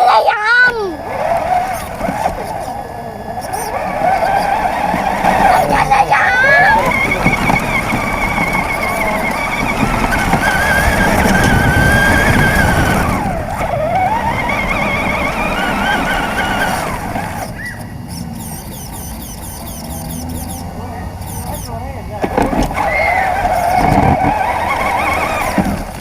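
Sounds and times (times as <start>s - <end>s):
toy car motor whining: 0.0s - 26.0s.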